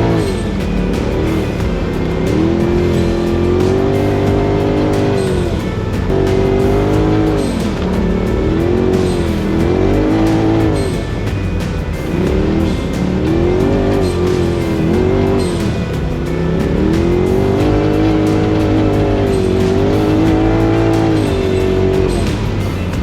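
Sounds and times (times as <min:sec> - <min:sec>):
music with steady beat: 0:00.0 - 0:23.0
utility vehicle engine revving: 0:00.0 - 0:23.0.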